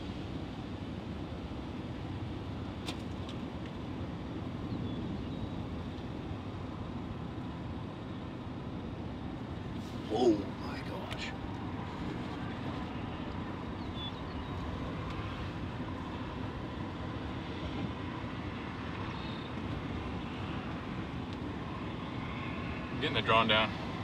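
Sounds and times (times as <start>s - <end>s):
rushing wind: 0.0s - 24.0s.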